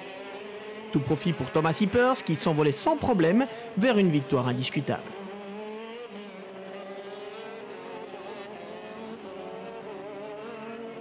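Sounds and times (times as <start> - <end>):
kart engines running: 0.0 - 11.0.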